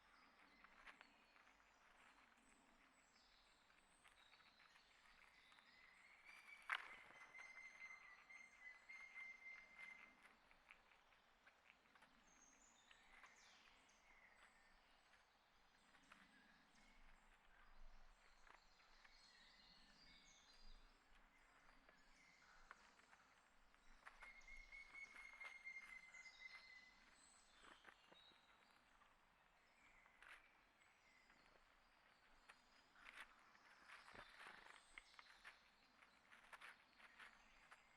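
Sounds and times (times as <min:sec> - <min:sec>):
birdsong chirps and calls: 0:00.0 - 0:37.9.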